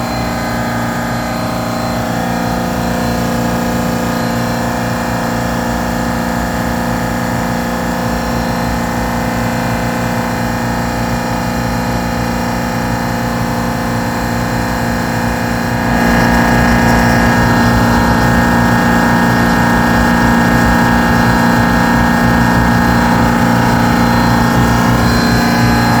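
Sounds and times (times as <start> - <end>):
refrigeration compressor humming: 0.0 - 26.0.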